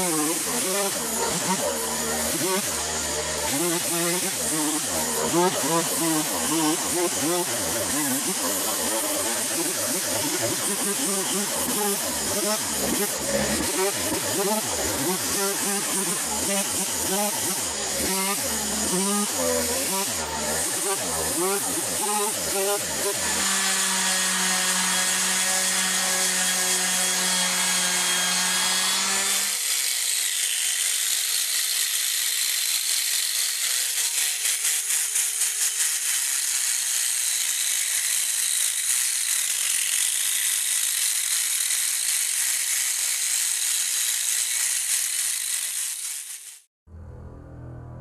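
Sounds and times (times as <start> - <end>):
chainsaw engine running: 0.0 - 46.6.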